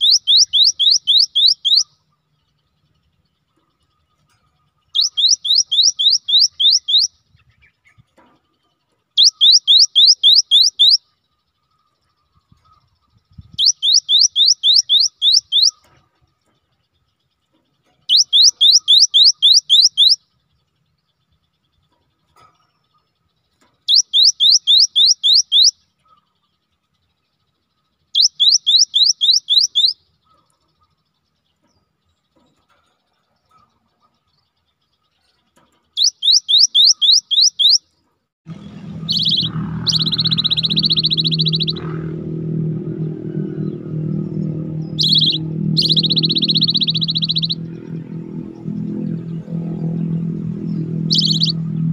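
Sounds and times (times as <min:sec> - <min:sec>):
bird singing whistled notes: 0:00.0 - 0:08.1, 0:09.1 - 0:17.4, 0:18.0 - 0:21.9, 0:22.8 - 0:30.3, 0:36.0 - 0:37.9, 0:38.6 - 0:42.0, 0:42.8 - 0:51.9.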